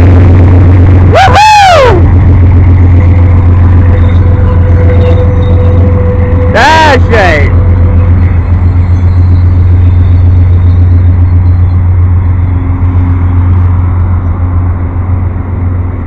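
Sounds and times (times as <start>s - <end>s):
diesel locomotive rumble: 0.0s - 16.0s
train cars rolling by: 0.0s - 16.0s.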